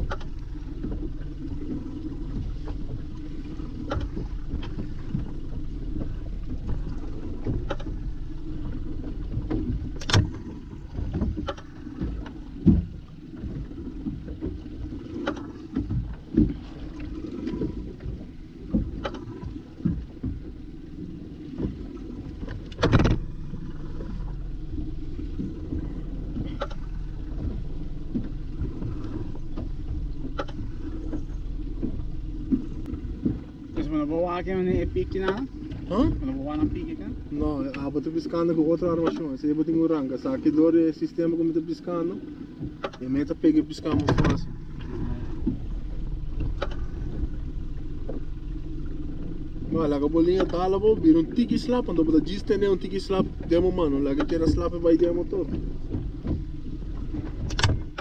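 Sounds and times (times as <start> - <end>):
boat motor running: 0.0 - 58.0.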